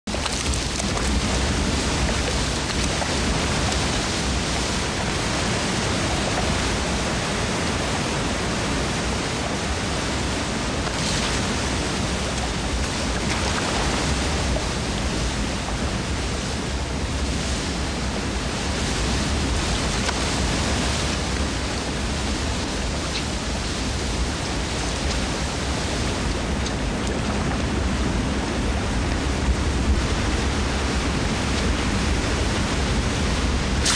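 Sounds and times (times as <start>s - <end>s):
waterfall and rapids rushing: 0.1s - 33.9s.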